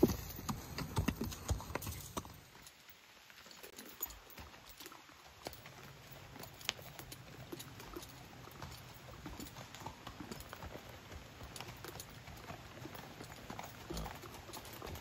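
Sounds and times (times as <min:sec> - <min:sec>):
sharp hoof click: 0:00.0 - 0:02.8, 0:03.7 - 0:15.0
hoofbeats on leafy dirt trail: 0:00.0 - 0:15.0.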